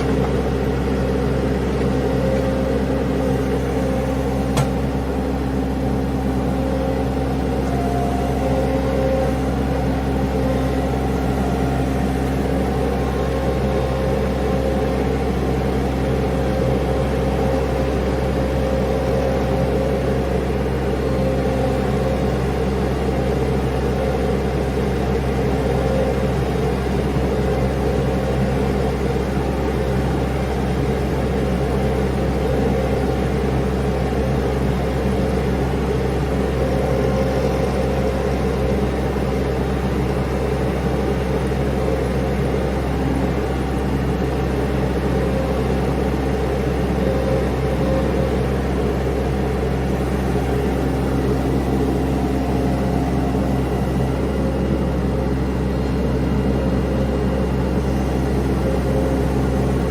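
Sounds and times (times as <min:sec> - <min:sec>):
mini skid steer engine running: 0:00.0 - 0:59.9.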